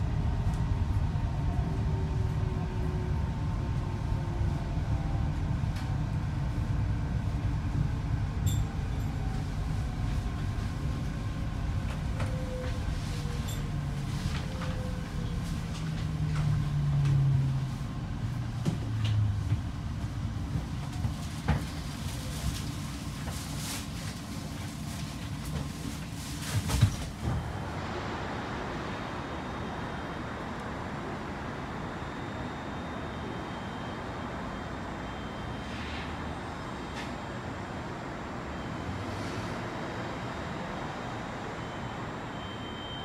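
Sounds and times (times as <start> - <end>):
train rumbling on guideway: 0.0 - 42.3.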